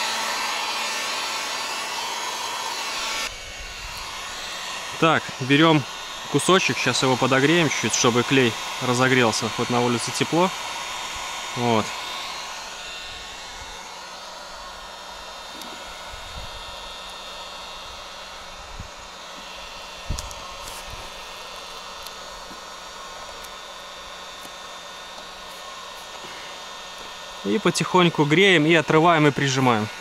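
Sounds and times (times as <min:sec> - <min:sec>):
heat gun blowing: 0:00.0 - 0:30.0.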